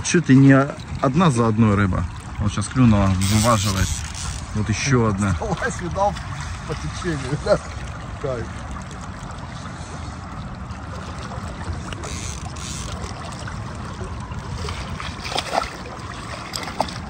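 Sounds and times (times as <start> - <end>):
water around a boat: 0.0 - 17.0.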